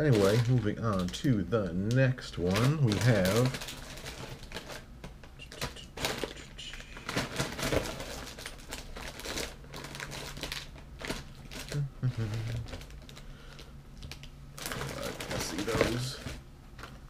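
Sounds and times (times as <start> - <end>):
plastic wrappers crinkling: 0.0 - 17.0.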